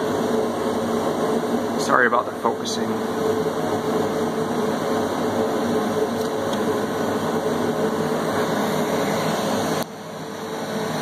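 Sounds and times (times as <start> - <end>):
cooling fans whirring: 0.0 - 11.0
mid-pitched hum: 0.0 - 11.0.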